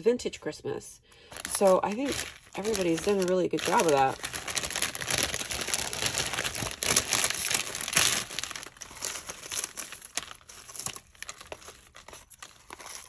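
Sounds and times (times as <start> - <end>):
packaging crinkling and rustling: 1.3 - 13.0.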